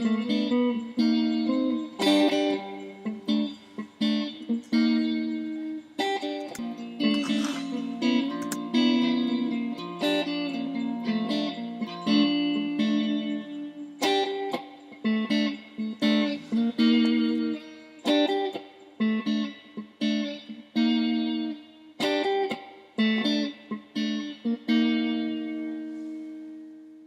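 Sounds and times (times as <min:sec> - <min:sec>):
guitar plucked notes and chords: 0:00.0 - 0:27.0.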